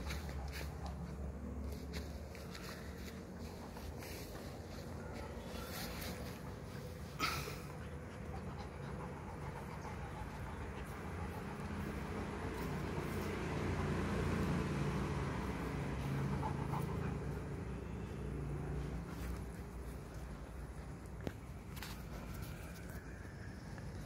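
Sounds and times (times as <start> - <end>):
dog panting: 0.0 - 21.6.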